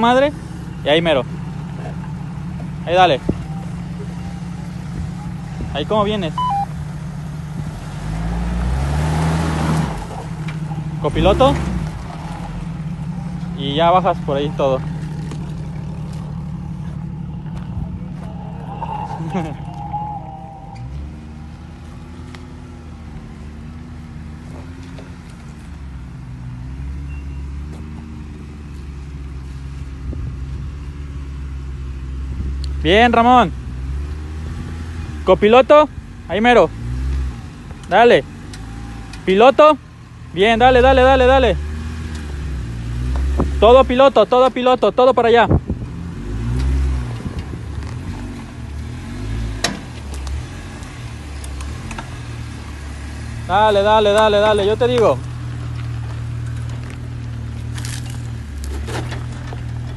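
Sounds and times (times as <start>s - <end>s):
engine running at low revs: 0.0s - 59.9s.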